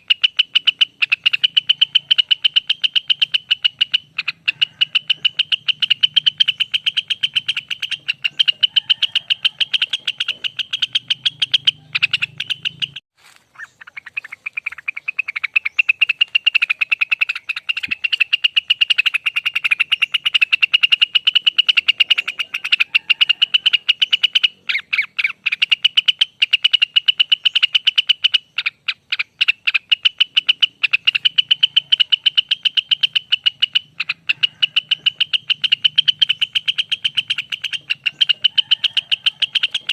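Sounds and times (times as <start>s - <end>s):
songbird singing rapid trill: 0.0s - 39.9s.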